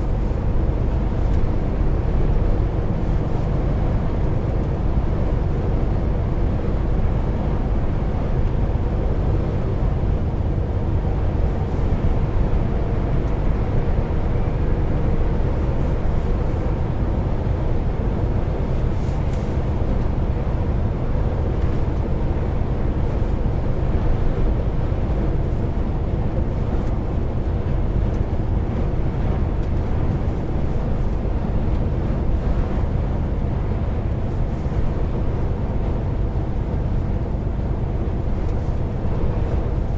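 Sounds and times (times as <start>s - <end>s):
diesel engine drone: 0.0s - 39.9s
road noise: 0.0s - 39.9s.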